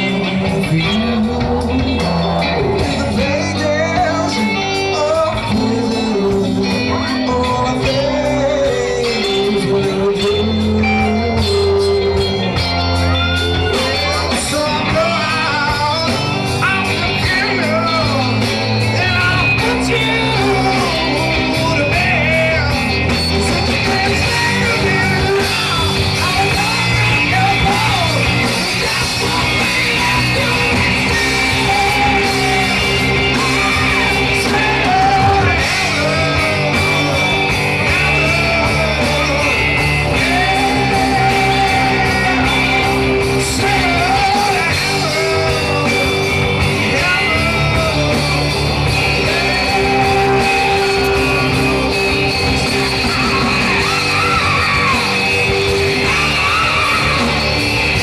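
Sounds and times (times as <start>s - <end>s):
live rock band playing: 0.0s - 58.0s
man singing and shouting: 0.0s - 58.0s.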